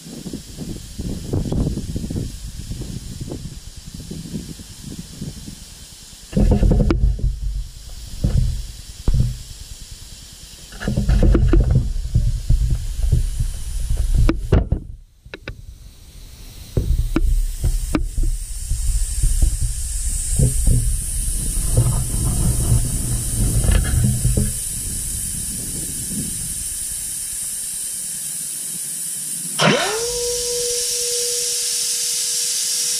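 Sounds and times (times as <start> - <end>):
wind buffeting microphone: 0.0 - 28.1
faint hiss: 0.0 - 32.9.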